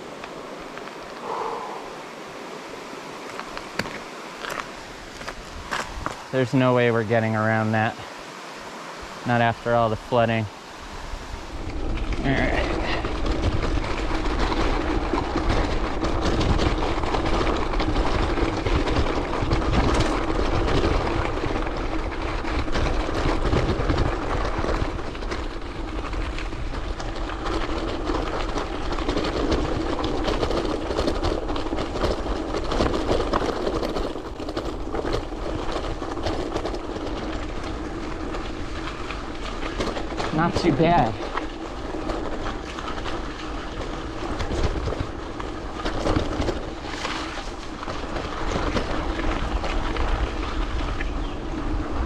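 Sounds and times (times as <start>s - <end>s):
tyres crunching on gravel: 0.0s - 8.0s, 9.2s - 52.0s
bike rattling: 0.0s - 52.0s.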